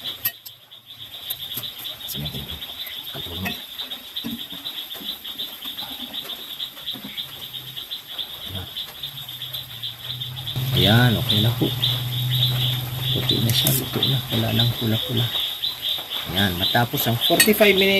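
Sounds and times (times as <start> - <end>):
night insects chirping: 0.0 - 17.9.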